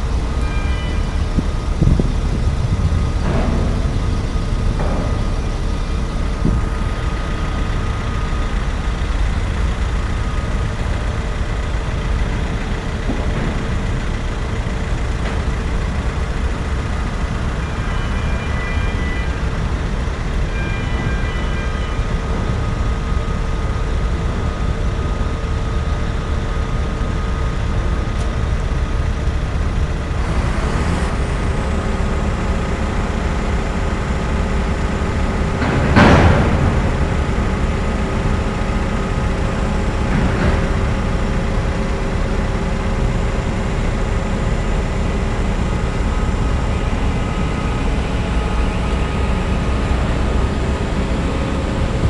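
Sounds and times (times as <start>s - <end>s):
faint machinery tones: 0.0s - 52.0s
ship engine rumble and hum: 0.0s - 52.0s.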